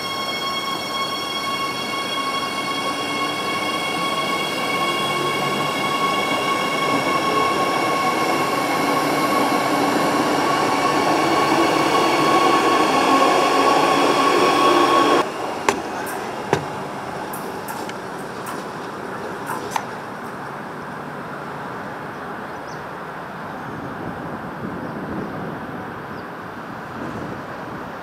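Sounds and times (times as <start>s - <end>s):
electric train whine and rumble: 0.0s - 28.0s.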